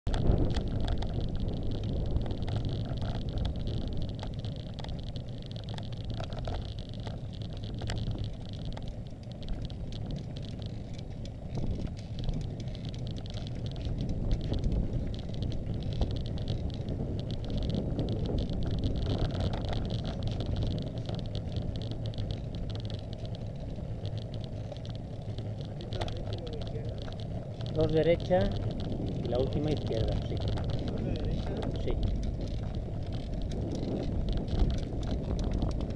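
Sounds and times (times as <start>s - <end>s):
tyres on asphalt: 0.0s - 35.9s
wind on microphone: 0.0s - 35.9s.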